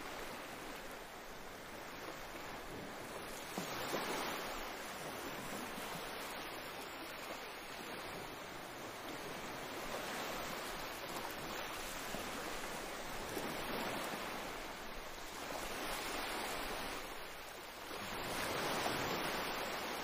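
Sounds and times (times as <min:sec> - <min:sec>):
water rushing along boat hull: 0:00.0 - 0:20.0.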